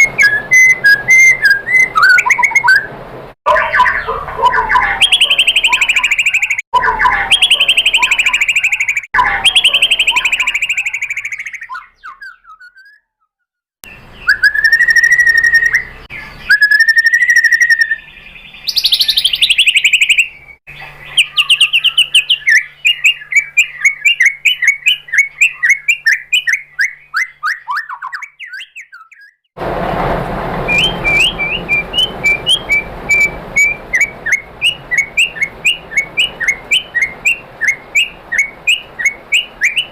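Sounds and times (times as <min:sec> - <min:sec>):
songbird whistling and trilling: 0:00.0 - 0:02.9, 0:03.5 - 0:29.5, 0:30.7 - 0:39.9.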